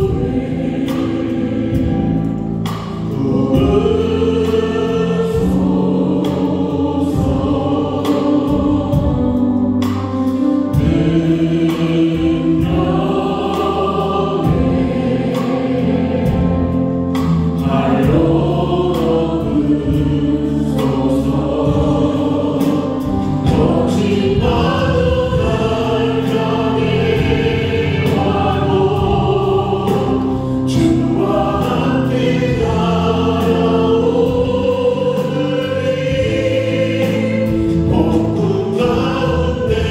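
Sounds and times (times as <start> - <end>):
group singing worship song: 0.0 - 39.9.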